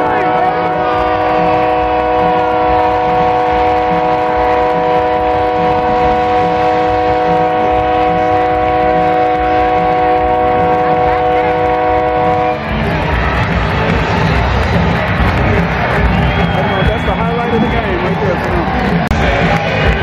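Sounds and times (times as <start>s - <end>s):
held horn-like chord: 0.0s - 16.8s
faint low beat: 0.0s - 20.0s
stadium crowd noise: 0.0s - 20.0s.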